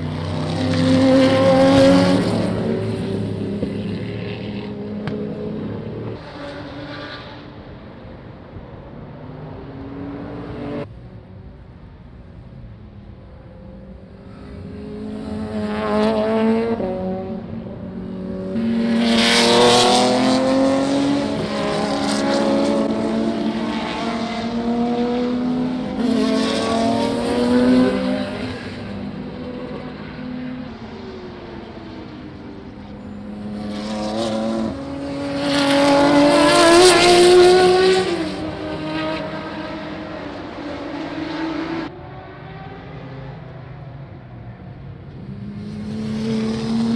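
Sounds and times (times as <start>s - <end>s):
racing cars passing at full throttle: 0.0s - 46.9s.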